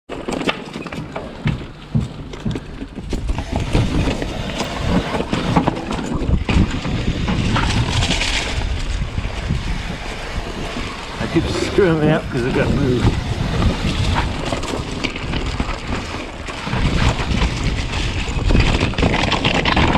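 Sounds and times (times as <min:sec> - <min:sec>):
bike knocking and rattling: 0:00.1 - 0:19.9
tyres rumbling over stones: 0:00.1 - 0:19.9
wind on microphone: 0:02.9 - 0:19.9.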